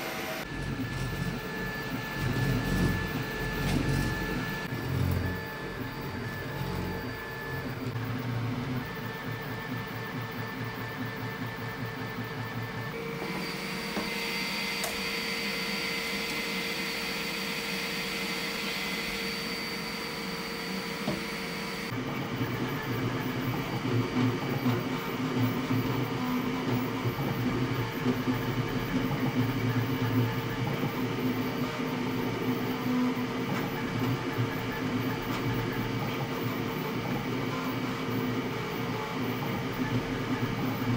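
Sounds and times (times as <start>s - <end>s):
three d printer whirring: 0.0s - 40.9s.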